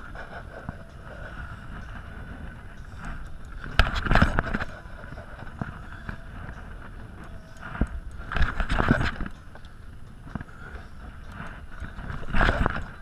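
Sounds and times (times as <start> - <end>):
wind and sea noise: 0.0 - 13.0.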